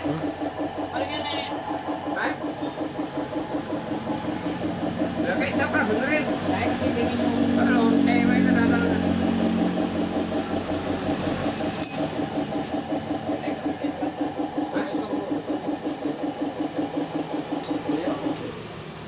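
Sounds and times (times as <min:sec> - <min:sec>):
small engine pulsing: 0:00.0 - 0:19.0.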